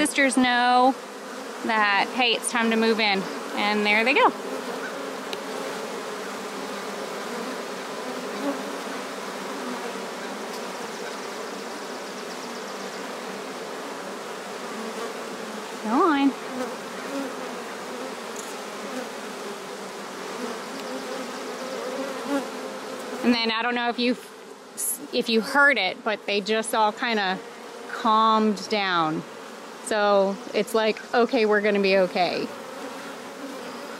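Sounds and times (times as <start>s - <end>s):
bees buzzing: 0.0s - 33.9s
single bee buzz: 0.0s - 33.9s.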